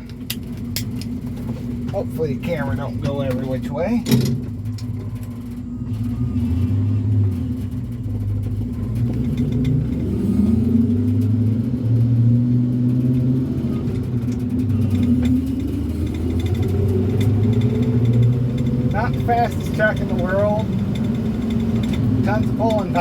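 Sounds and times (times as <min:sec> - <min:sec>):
truck engine accelerating: 0:00.0 - 0:23.0.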